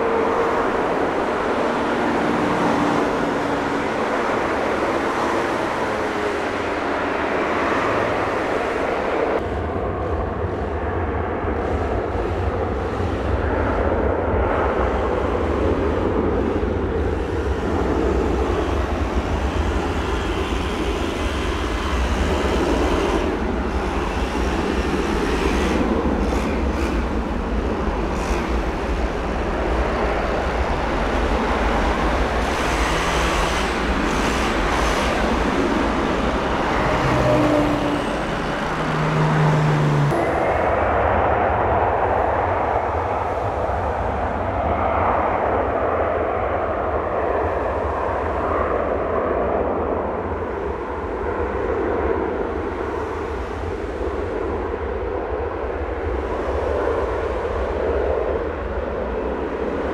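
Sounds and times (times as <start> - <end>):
jet engines at takeoff: 0.0 - 59.9.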